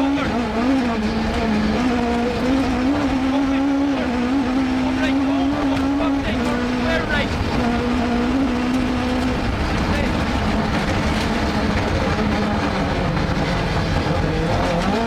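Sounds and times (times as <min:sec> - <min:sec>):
car engine running hard: 0:00.0 - 0:15.0
road and gravel noise: 0:00.0 - 0:15.0.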